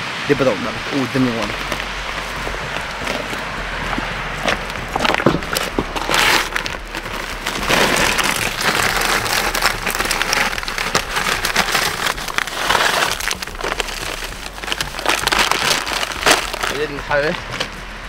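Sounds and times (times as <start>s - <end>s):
stones scraping and clattering: 1.5s - 17.8s.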